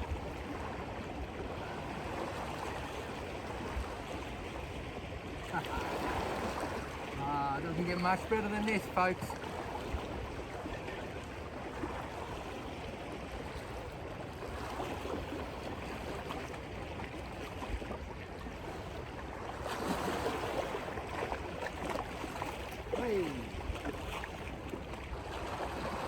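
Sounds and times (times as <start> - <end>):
surf washing against rocks: 0.0 - 26.0.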